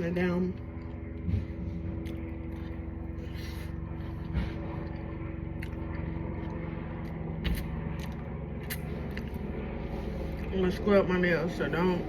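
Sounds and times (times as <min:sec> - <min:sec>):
low mechanical hum: 0:00.0 - 0:12.0
food being chewed: 0:00.7 - 0:10.5.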